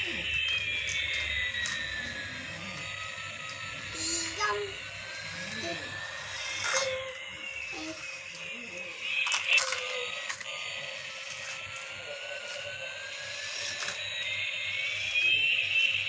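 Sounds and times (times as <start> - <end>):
toy airplane whistling tones: 0.0 - 16.0.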